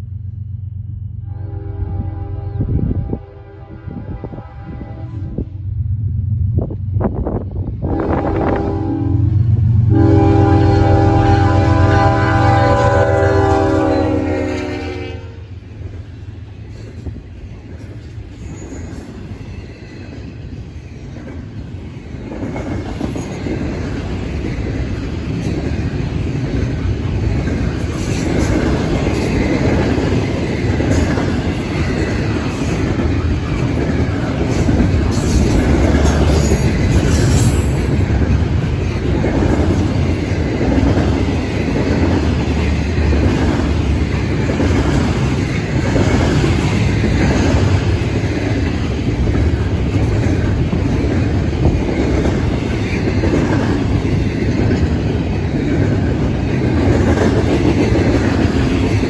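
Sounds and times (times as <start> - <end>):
freight train wheels on rail: 0.0 - 59.0.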